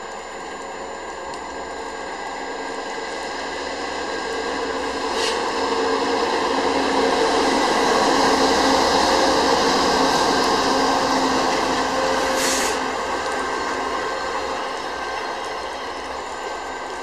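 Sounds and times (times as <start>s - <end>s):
diesel locomotive engine droning: 0.0s - 17.0s
train wheels on rails: 0.0s - 17.0s.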